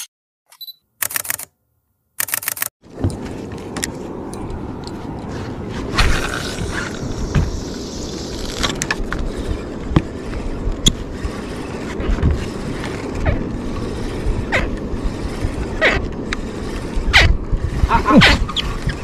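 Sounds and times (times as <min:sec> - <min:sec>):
boat engine rumble: 0:02.8 - 0:19.0.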